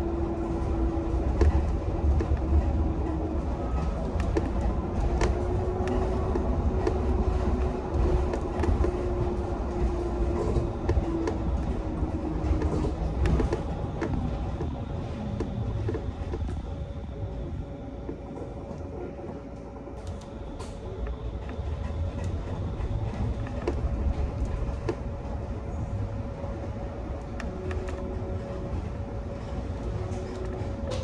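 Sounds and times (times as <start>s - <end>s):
tyres rumbling on road: 0.0s - 18.9s, 19.8s - 31.0s.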